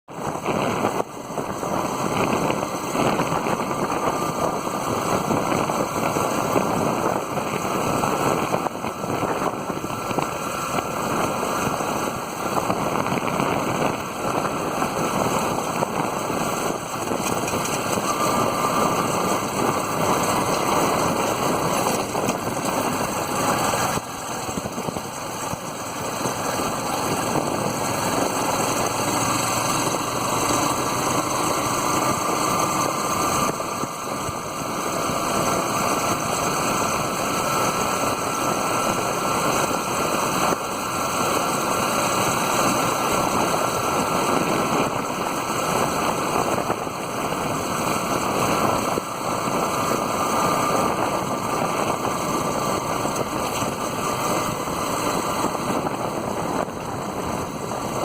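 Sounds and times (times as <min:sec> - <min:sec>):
moving vehicle engine rumbling: 0:00.0 - 0:58.0.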